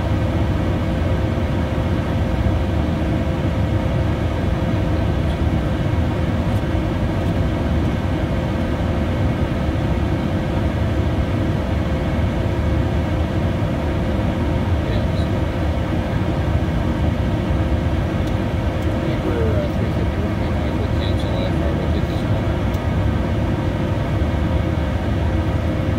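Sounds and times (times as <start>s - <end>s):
cabin airflow rush: 0.0s - 25.9s
jet engines droning: 0.0s - 25.9s
steady hum: 0.0s - 25.9s.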